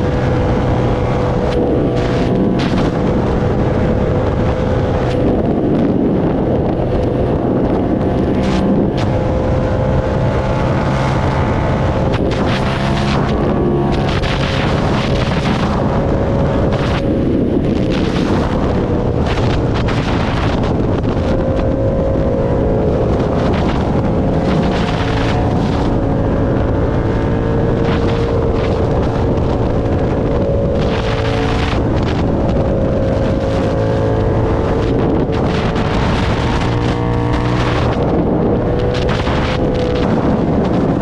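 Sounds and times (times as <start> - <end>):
motorcycle engine running: 0.0 - 41.0
wind buffeting microphone: 0.0 - 41.0.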